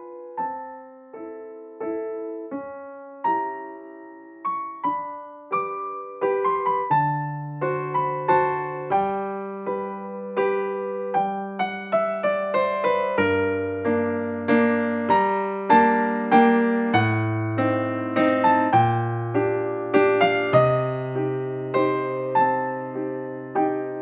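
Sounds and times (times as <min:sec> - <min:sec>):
gentle electric piano tune: 0:00.0 - 0:24.0.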